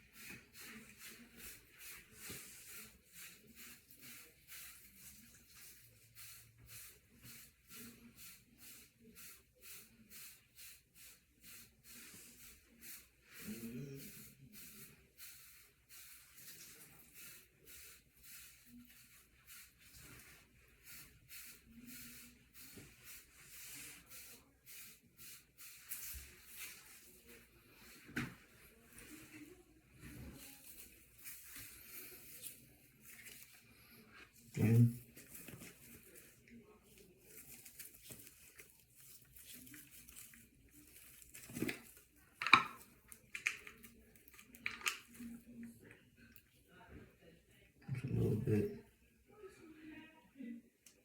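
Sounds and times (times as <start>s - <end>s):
hair brush swishing: 0.0s - 45.3s.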